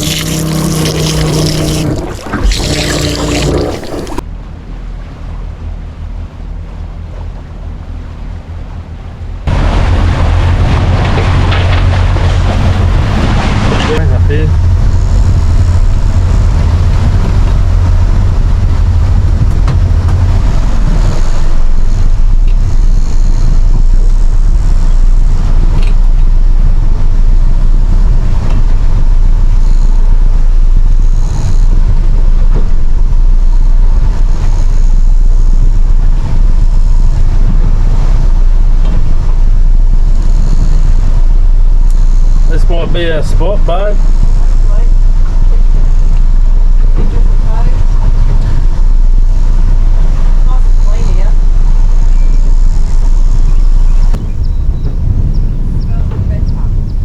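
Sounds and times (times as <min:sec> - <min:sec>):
wind buffeting microphone: 0:00.0 - 0:04.2, 0:09.4 - 0:57.0
boat engine droning: 0:00.0 - 0:57.0.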